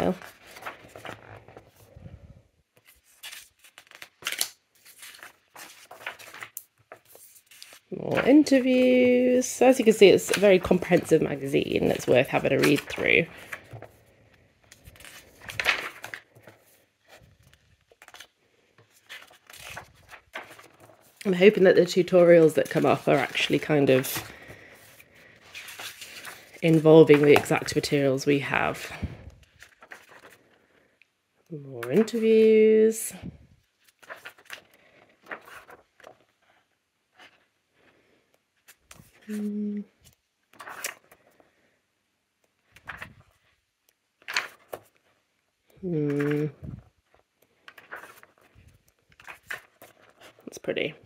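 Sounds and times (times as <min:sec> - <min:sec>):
magazine pages turning: 0:00.0 - 0:30.9, 0:31.8 - 0:32.7, 0:33.6 - 0:41.5, 0:42.4 - 0:45.3, 0:46.0 - 0:50.9.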